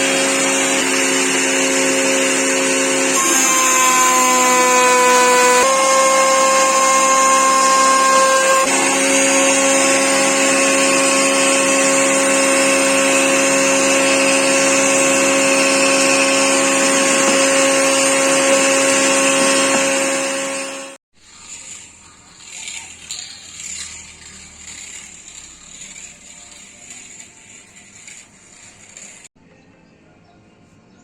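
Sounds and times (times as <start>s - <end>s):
router motor whining: 0.0s - 29.3s.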